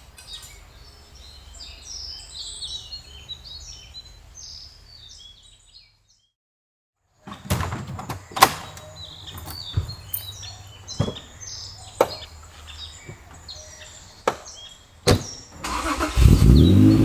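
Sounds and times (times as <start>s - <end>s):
small birds chirping: 0.0s - 6.4s, 7.2s - 17.0s.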